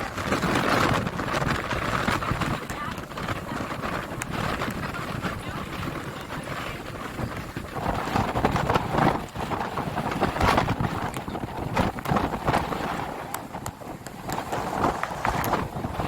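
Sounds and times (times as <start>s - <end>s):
strong gusting wind on microphone: 0.0s - 16.0s.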